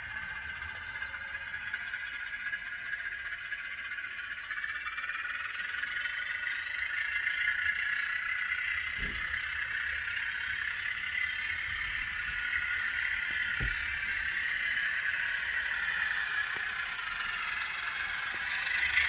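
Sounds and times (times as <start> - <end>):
model locomotive running sound: 0.0 - 19.0.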